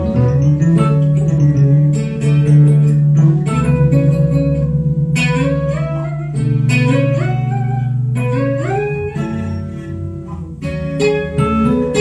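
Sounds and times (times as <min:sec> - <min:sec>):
solo bass guitar: 0:00.0 - 0:12.0.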